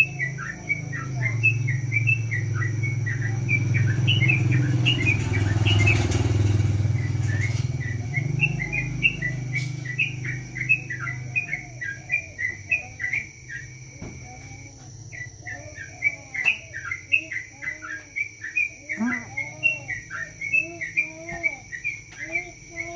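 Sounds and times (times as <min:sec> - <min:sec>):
bird chirping song: 0:00.0 - 0:22.9
low engine hum: 0:00.0 - 0:22.9.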